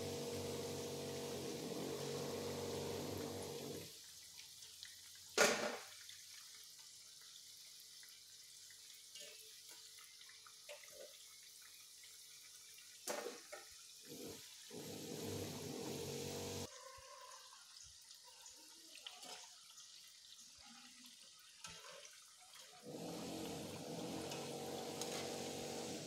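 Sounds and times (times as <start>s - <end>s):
oil sizzling in deep fryer: 0.0s - 16.7s, 19.4s - 26.0s.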